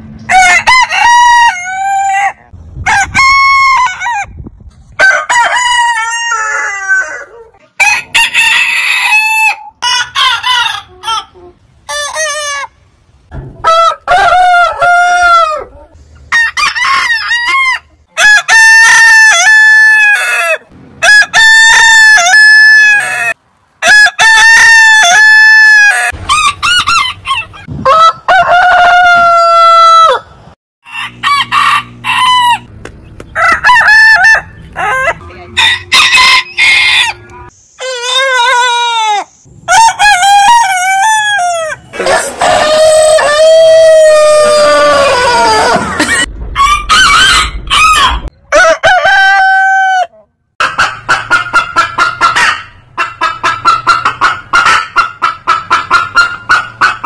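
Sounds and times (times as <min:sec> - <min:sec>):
roosters crowing: 0:00.2 - 0:12.8, 0:13.6 - 0:32.7, 0:33.3 - 0:57.0.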